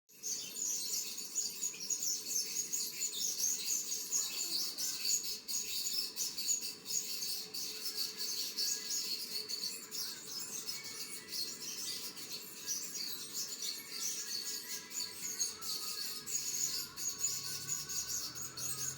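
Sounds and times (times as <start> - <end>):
small birds chirping: 0.1 - 18.9.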